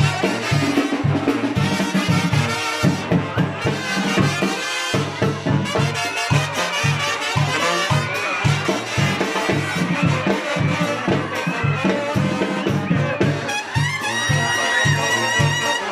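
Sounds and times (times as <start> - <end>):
brass band playing: 0.0 - 15.9.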